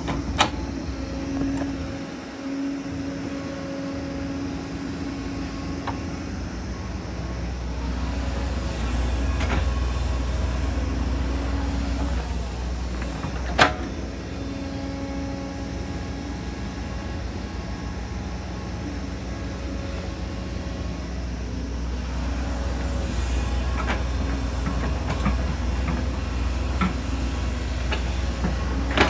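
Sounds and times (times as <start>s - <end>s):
excavator diesel engine running: 0.0s - 29.0s
hydraulic whine: 0.0s - 29.0s.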